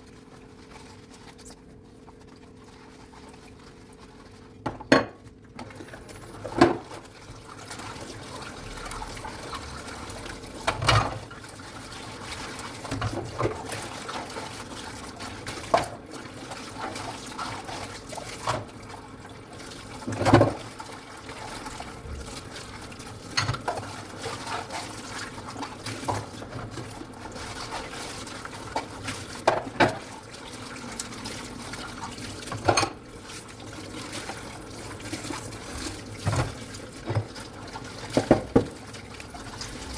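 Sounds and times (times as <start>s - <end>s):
tap water running into sink: 4.7s - 39.9s.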